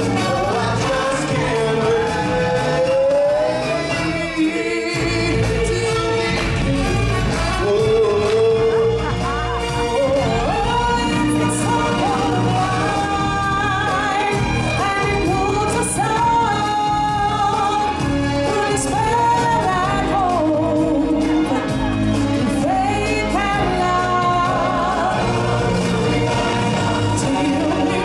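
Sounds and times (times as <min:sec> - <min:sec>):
people singing over music: 0:00.0 - 0:28.0.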